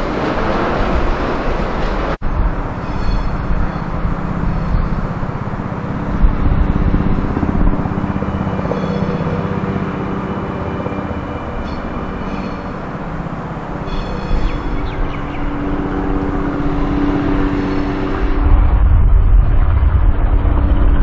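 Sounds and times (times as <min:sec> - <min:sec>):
train wheels rumbling on rail: 0:00.0 - 0:20.2
low hum: 0:00.0 - 0:21.0.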